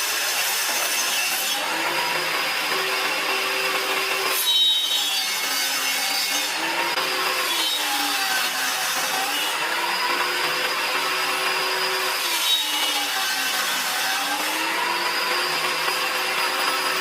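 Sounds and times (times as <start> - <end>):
power tool cutting wood: 0.0 - 17.0.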